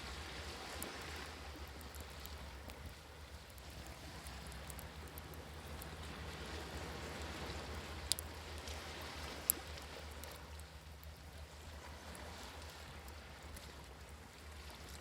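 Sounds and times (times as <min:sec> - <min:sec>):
campfire crackling: 0:00.0 - 0:13.8.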